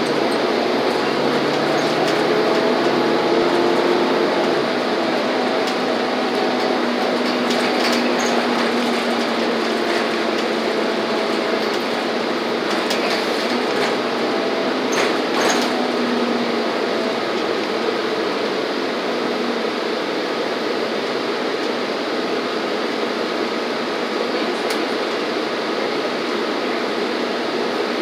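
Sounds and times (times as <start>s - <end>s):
bus engine and road noise: 0.0s - 28.0s.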